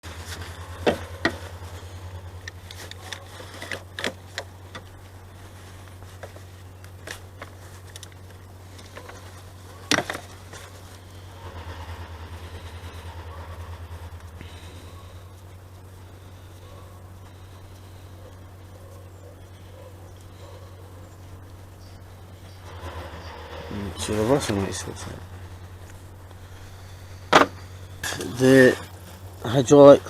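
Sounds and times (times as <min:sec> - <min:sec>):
low pulsing hum: 0:00.0 - 0:30.0.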